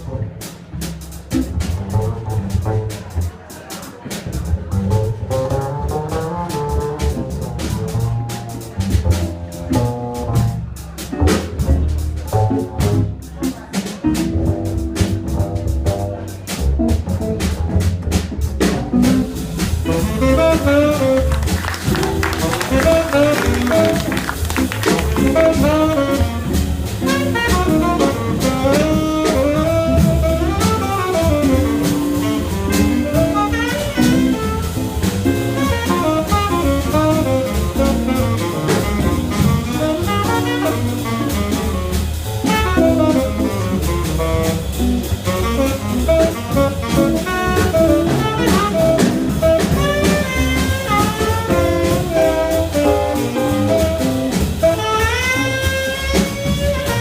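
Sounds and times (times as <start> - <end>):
low bass: 0.0 - 3.4, 4.2 - 57.0
drums with busy cymbals: 0.0 - 57.0
jazz melody line: 0.0 - 57.0.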